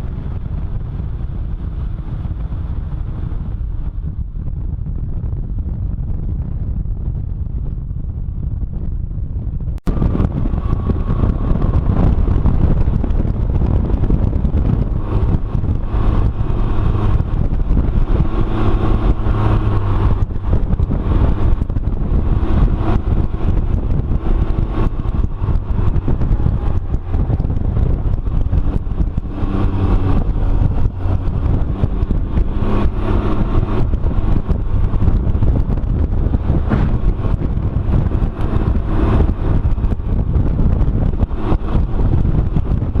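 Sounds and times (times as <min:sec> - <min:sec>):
engine drone: 0:00.0 - 0:43.0
wind rushing over microphone: 0:00.0 - 0:43.0.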